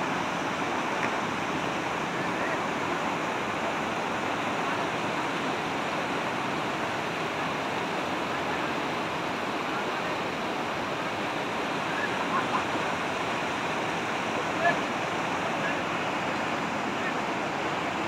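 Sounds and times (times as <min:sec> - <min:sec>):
stream rushing over boulders: 0:00.0 - 0:18.0.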